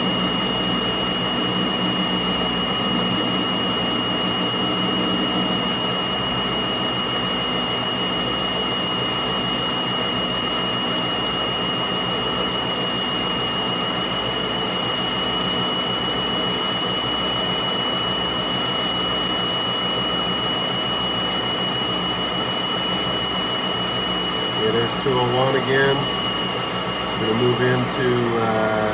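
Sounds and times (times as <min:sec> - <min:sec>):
high whine: 0:00.0 - 0:28.9
metal lathe running: 0:00.0 - 0:28.9.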